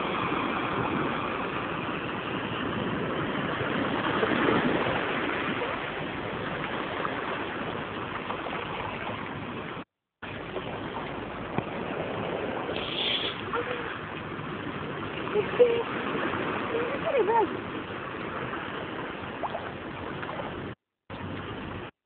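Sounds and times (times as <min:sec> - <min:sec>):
sea water washing around rocks: 0:00.0 - 0:21.9.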